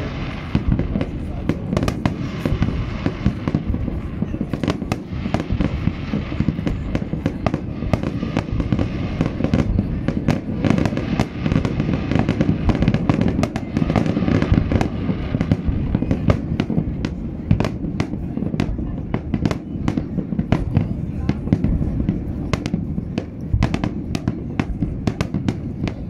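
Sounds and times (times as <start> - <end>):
fireworks booms: 0.0 - 26.0
fireworks sharp cracks: 0.0 - 26.0.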